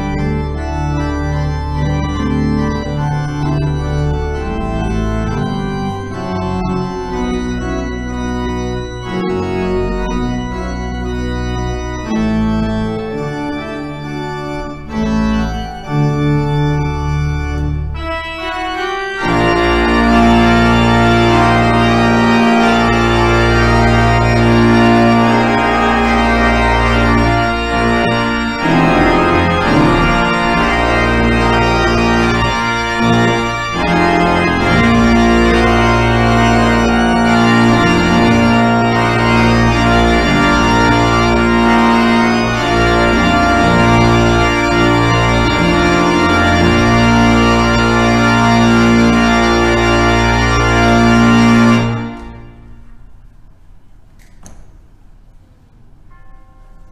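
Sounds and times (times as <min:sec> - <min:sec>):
church organ chords: 0:00.0 - 0:54.0, 0:55.0 - 0:56.9.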